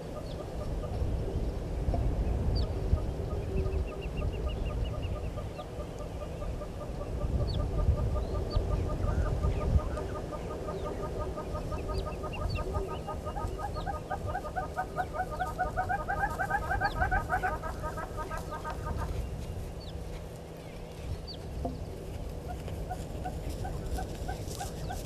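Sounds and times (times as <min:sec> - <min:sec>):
birds clucking rapidly: 0:00.0 - 0:25.0.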